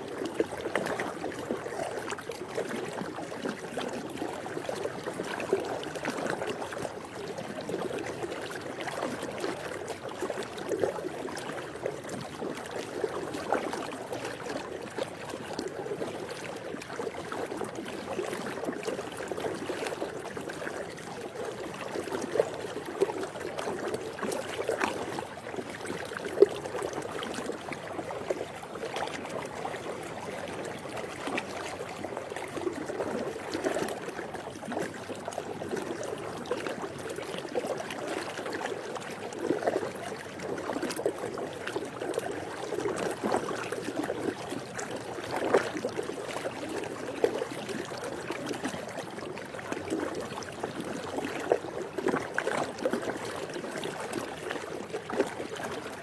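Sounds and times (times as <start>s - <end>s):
pool water lapping and sloshing: 0.0s - 56.0s.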